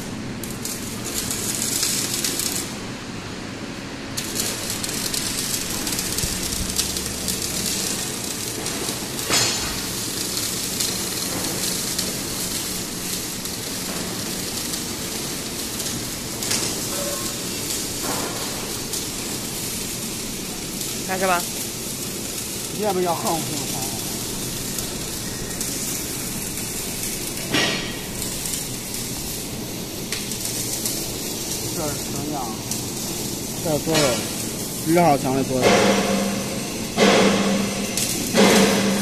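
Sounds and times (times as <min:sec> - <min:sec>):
welding machine hiss: 0:00.0 - 0:39.0
crackles and clicks: 0:00.4 - 0:02.8, 0:04.2 - 0:39.0.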